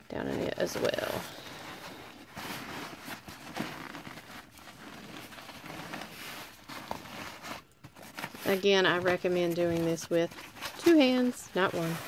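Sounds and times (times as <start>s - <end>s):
fabric rustling and scuffing: 0.1s - 12.0s.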